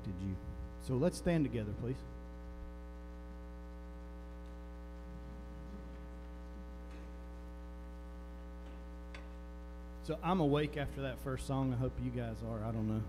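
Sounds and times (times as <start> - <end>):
sound system electrical hum: 0.0 - 13.0.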